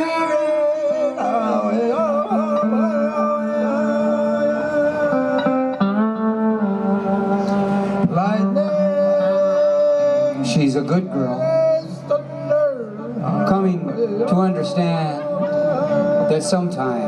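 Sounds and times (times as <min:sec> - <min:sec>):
band playing held notes: 0:00.0 - 0:17.0
electric guitar lead: 0:00.0 - 0:17.0.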